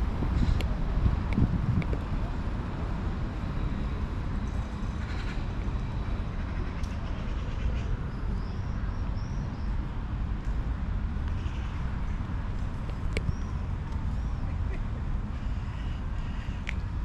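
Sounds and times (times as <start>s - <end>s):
distant traffic rumble: 0.0s - 17.0s
wind: 0.0s - 17.0s.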